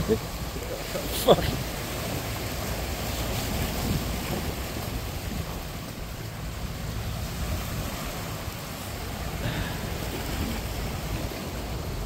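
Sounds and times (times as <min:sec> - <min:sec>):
sea waves washing over rocks: 0:00.0 - 0:12.0
wind rumbling on microphone: 0:00.0 - 0:12.0.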